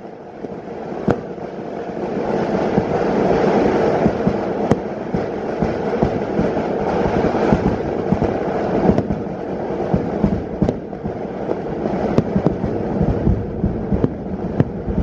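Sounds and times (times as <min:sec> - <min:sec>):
fireworks barrage of bangs: 0:00.0 - 0:15.0
sharp firework cracks: 0:00.0 - 0:15.0.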